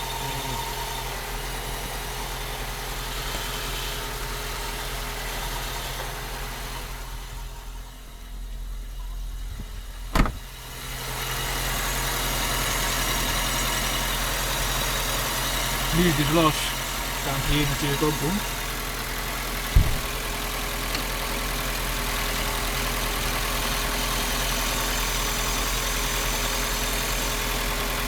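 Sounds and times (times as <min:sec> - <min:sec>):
car engine idling: 0:00.0 - 0:28.0
odd extra engine noise: 0:00.0 - 0:28.0.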